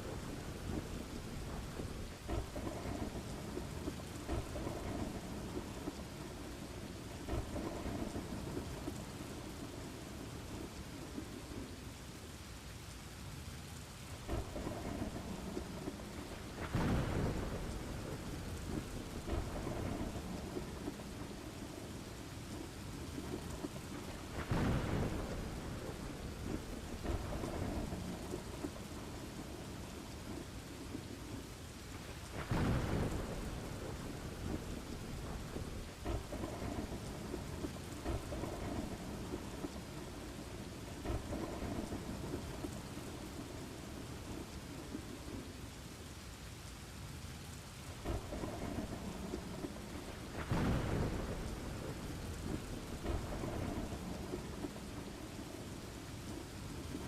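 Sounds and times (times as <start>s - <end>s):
thunder rumbling: 0.0s - 11.9s, 14.1s - 45.7s, 47.7s - 57.0s
steady rain: 0.0s - 57.0s.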